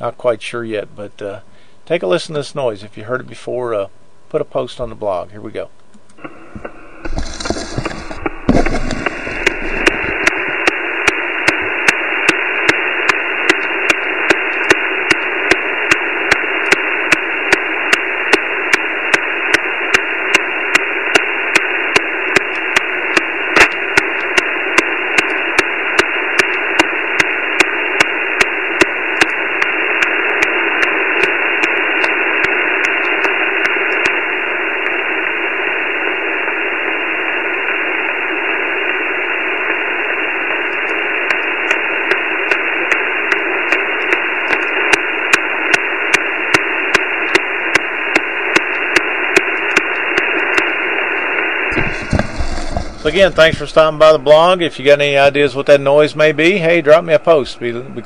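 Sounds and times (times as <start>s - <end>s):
radio static hiss: 0.0s - 58.0s
ticking interference clicks: 5.8s - 36.6s, 37.4s - 57.4s.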